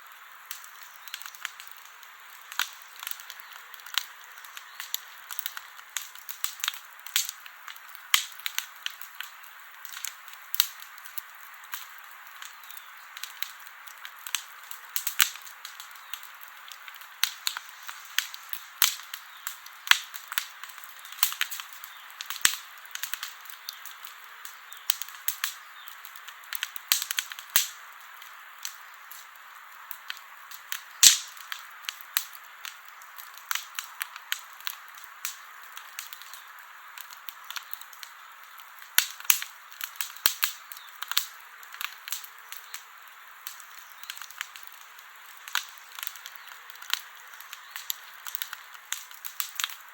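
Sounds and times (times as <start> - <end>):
campfire crackling and popping: 0.0 - 49.9
soft fire hiss: 0.0 - 49.9.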